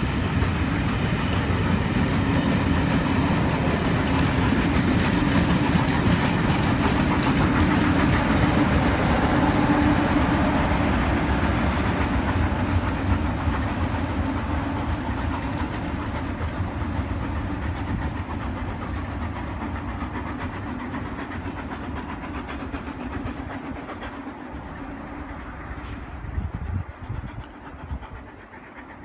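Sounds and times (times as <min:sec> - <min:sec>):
train rumble: 0:00.0 - 0:29.0
train wheels clattering over rails: 0:00.0 - 0:29.0.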